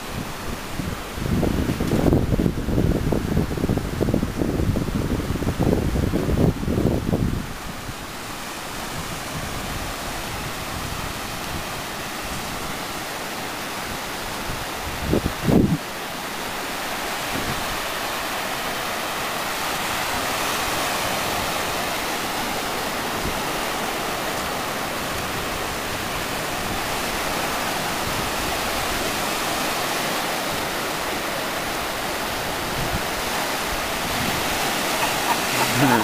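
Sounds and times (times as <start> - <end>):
wind on microphone: 0.0 - 19.0, 19.6 - 36.0
sea surf breaking on beach: 0.0 - 36.0.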